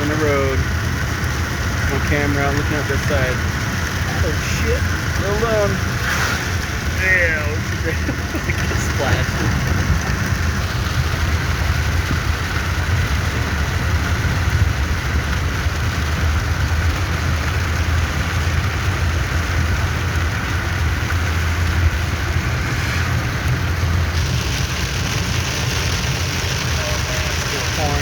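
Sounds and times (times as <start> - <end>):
car road and engine rumble: 0.0 - 28.0
rain hissing on car: 0.0 - 28.0.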